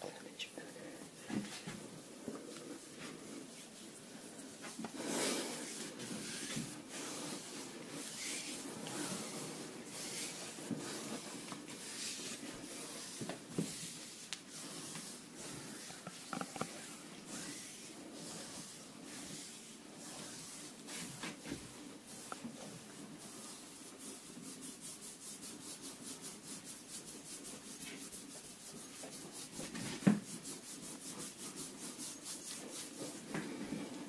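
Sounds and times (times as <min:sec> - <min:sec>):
hands rubbing skin: 0:00.4 - 0:34.0.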